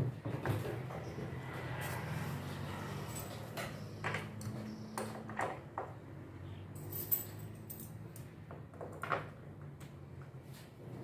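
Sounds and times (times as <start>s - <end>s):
parts and tools knocking and scraping: 0.0s - 11.0s.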